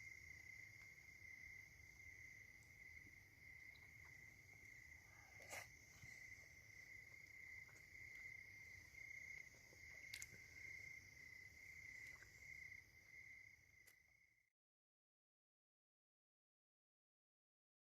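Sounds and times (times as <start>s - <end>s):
crickets trilling: 0.0s - 14.5s.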